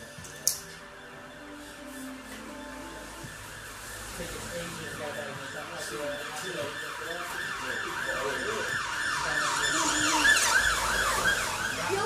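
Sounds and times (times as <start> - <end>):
emergency vehicle siren yelping: 0.0 - 12.0.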